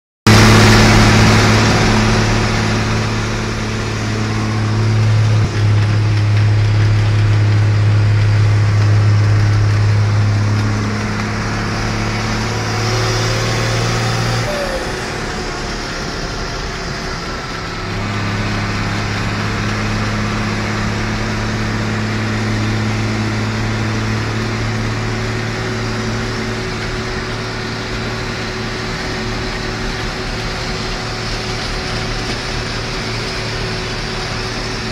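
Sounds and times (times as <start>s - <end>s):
road and wind noise: 0.3s - 34.9s
tractor diesel engine droning: 0.3s - 34.9s.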